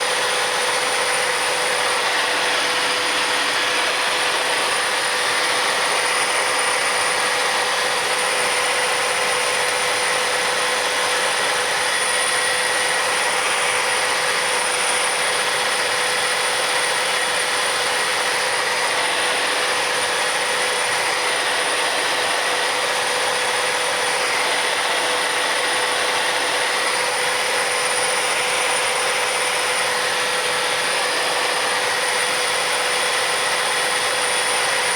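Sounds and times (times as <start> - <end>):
helicopter rotors rushing: 0.0 - 34.9
high turbine whines: 0.0 - 34.9.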